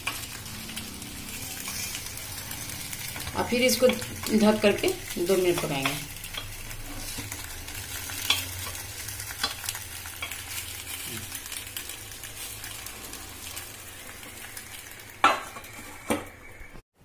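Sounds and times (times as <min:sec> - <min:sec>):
food sizzling in oil: 0:00.0 - 0:16.8.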